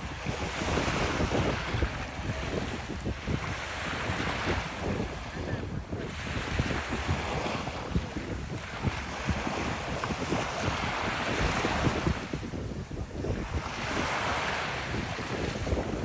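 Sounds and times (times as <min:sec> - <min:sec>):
ocean waves breaking on beach: 0:00.0 - 0:16.0
wind buffeting microphone: 0:00.0 - 0:16.0.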